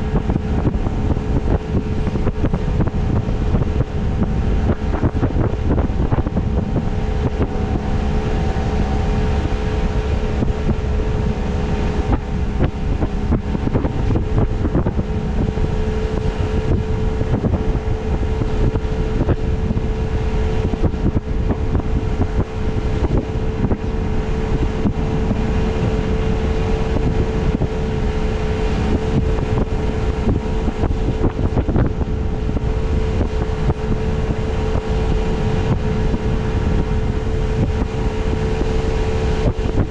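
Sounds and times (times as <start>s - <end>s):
boat motor humming: 0.0s - 39.9s
wind buffeting microphone: 0.0s - 39.9s.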